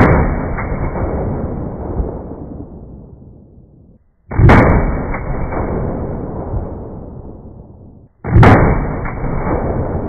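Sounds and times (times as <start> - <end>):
slowed rifle shot boom: 0.0 - 10.0.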